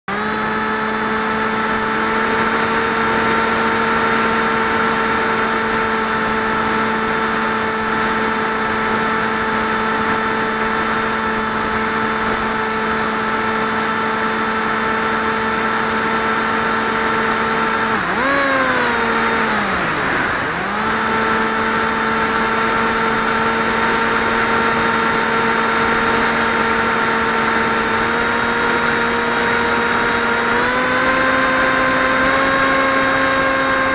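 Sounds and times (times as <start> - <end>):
model plane motor and propeller droning: 0.1 - 33.9.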